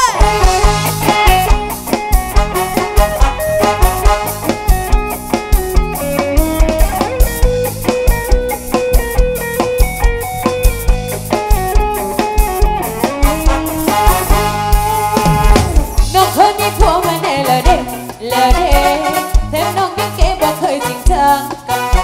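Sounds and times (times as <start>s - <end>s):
drum kit kick-drum beat: 0.0s - 22.0s
electric guitar melody: 0.0s - 22.0s.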